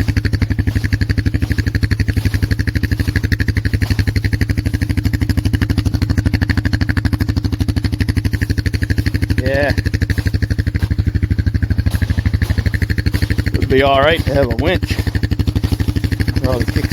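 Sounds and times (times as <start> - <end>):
engine chugging steadily: 0.0 - 16.9.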